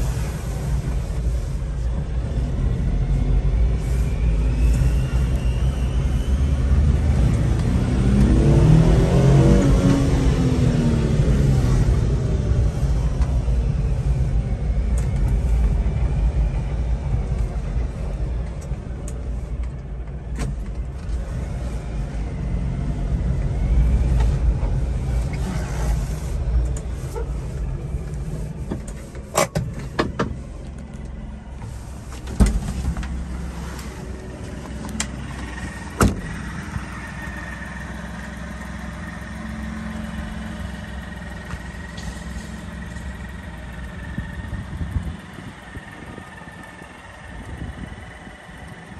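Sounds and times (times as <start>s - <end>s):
road noise: 0.0s - 48.9s
truck engine running: 0.0s - 48.9s.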